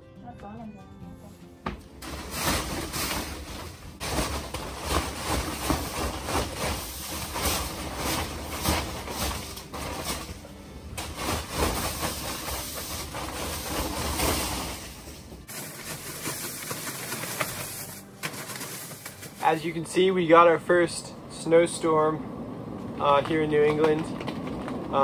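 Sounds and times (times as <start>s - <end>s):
plastic sheeting rustling and knocking: 1.6s - 20.0s, 23.1s - 25.0s.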